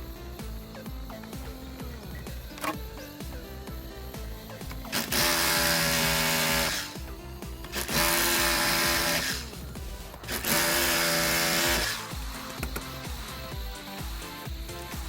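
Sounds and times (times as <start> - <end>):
background music: 0.0 - 15.0
power drill whining: 0.0 - 15.0.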